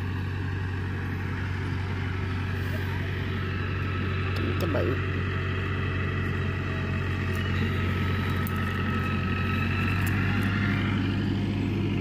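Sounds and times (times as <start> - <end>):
faint wavering whine: 0.0 - 12.0.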